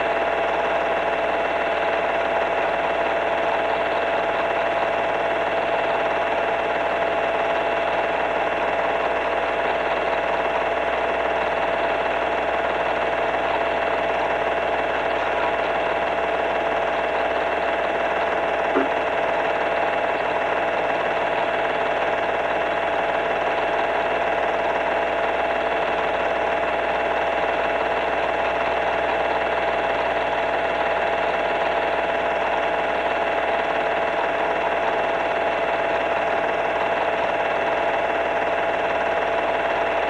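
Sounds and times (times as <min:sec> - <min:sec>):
film projector whirring hum: 0:00.0 - 0:40.0.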